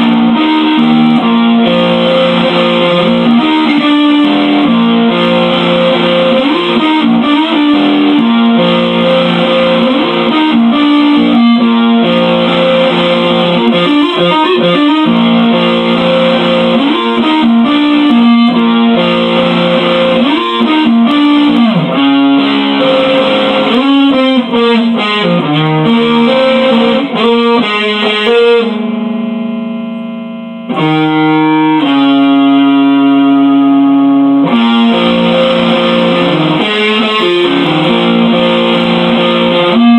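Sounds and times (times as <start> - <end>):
electric guitar with effects: 0.0 - 39.9.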